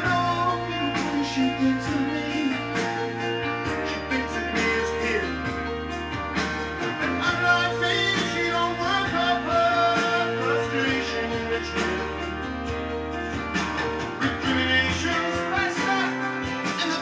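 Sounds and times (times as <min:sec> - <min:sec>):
record playing guitar and singing: 0:00.0 - 0:17.0.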